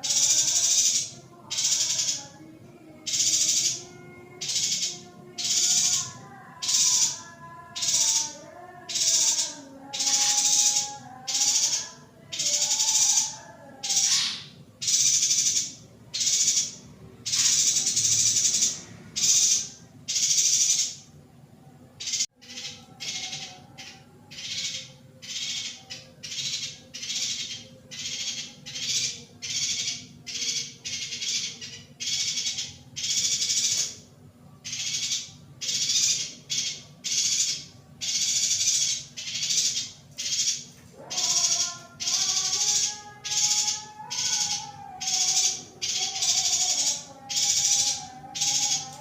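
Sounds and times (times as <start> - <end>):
bird chirping: 0.0 - 21.1, 22.0 - 49.0.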